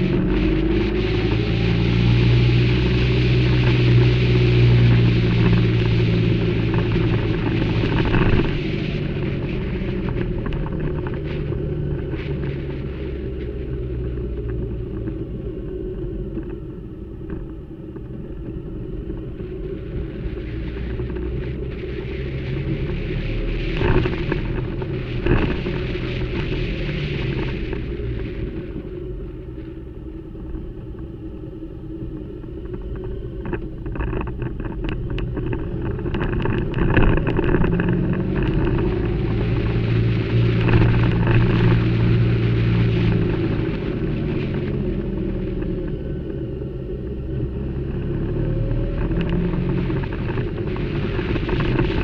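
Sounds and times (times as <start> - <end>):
motorcycle engine running: 0.0 - 52.0
steady rushing noise: 0.0 - 52.0.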